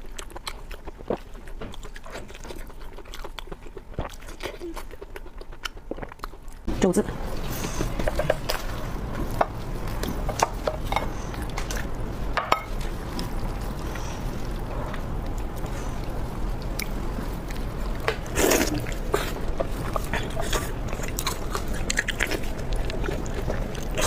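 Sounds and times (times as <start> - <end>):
wet chewing and mouth sounds: 0.0 - 24.0.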